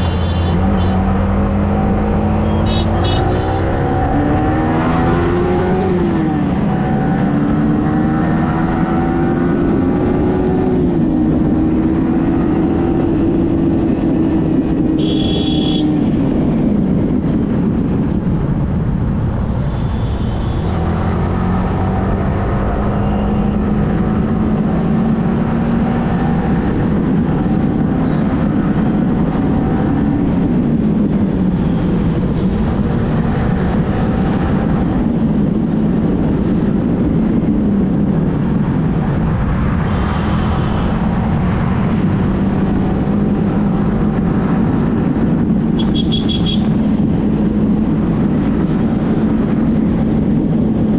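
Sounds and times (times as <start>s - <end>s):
road and wind noise: 0.0s - 50.9s.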